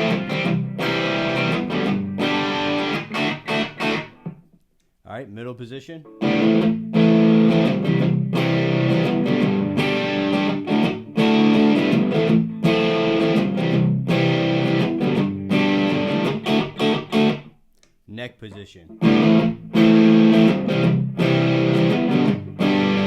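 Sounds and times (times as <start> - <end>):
overdriven electric guitar strumming: 0.0 - 4.5, 6.1 - 17.6, 18.9 - 23.0.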